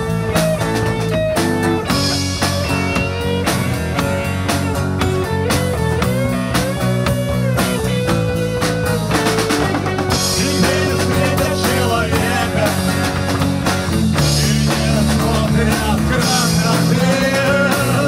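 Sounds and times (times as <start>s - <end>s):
amplified acoustic guitar: 0.0s - 18.0s
bass guitar: 0.0s - 18.0s
drum kit: 0.0s - 18.0s
electric guitar: 0.0s - 18.0s.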